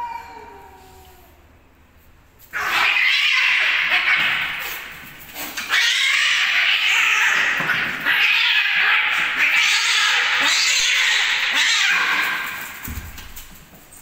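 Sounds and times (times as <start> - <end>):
cats screeching and yowling: 0.0 - 1.4, 2.5 - 12.9.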